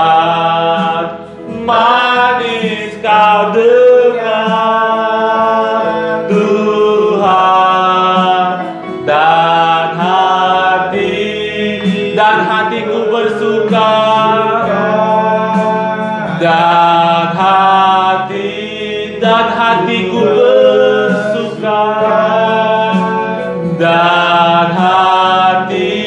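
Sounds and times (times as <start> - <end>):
keyboard accompaniment: 0.0 - 26.0
men singing: 0.0 - 26.0.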